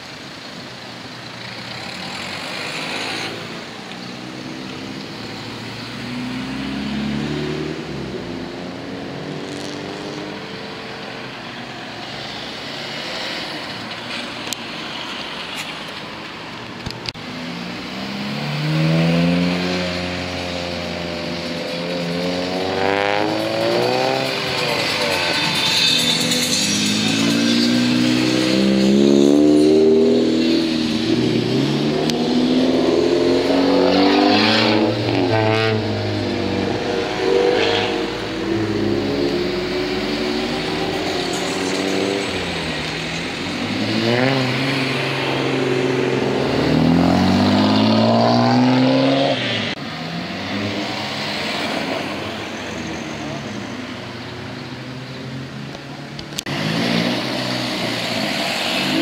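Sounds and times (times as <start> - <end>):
car engines revving and accelerating: 0.0 - 59.0.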